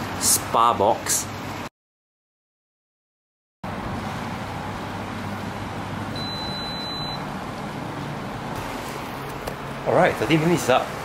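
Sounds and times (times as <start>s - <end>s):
dryer fan blowing with low hum: 0.0s - 1.7s, 3.6s - 11.0s.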